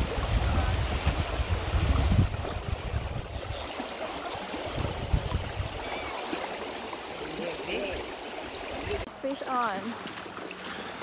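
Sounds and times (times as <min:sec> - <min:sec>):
river rushing over gravel: 0:00.0 - 0:11.0.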